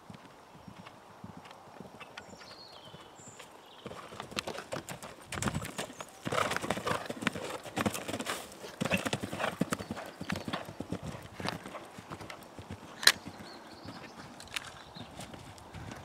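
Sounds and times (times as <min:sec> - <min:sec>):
horse hoofbeats cantering: 0:00.1 - 0:16.0.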